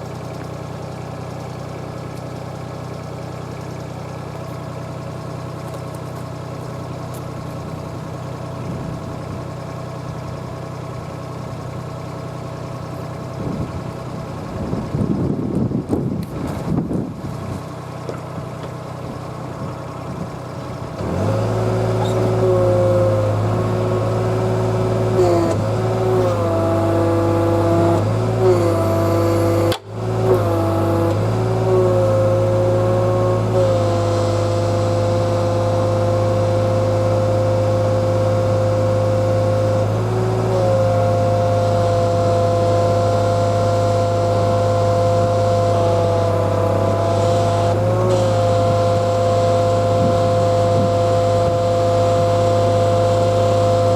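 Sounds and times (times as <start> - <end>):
diesel engine running: 0.0 - 53.9
hydraulic whine: 1.8 - 53.9.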